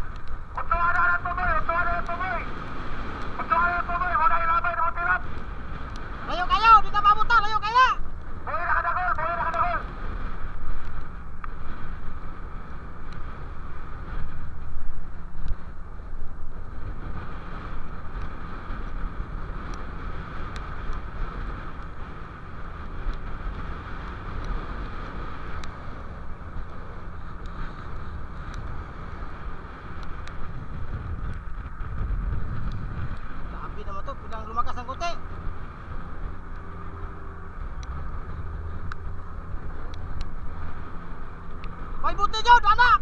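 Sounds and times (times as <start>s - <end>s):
boat engine running: 0.0s - 43.0s
sea washing along hull: 0.0s - 43.0s
wind buffeting microphone: 0.0s - 43.0s.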